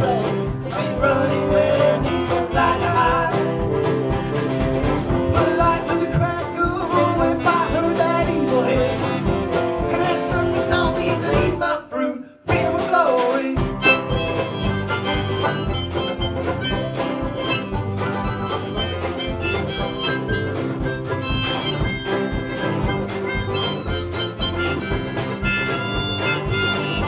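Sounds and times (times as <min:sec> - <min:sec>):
music with steady beat: 0:00.0 - 0:11.6, 0:12.5 - 0:27.0.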